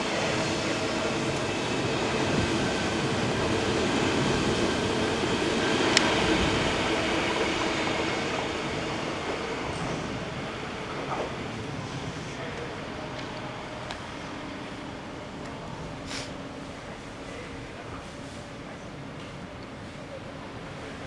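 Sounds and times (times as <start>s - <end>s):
train rail running noise: 0.0s - 21.0s.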